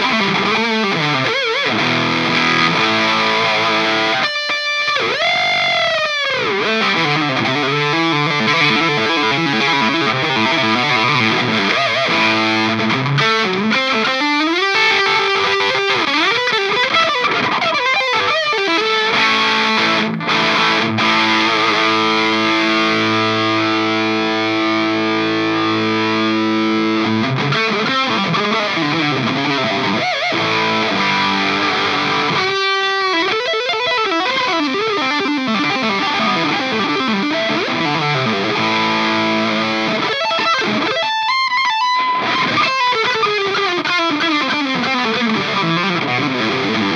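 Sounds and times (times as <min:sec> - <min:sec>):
overdriven electric guitar: 0:00.0 - 0:46.9.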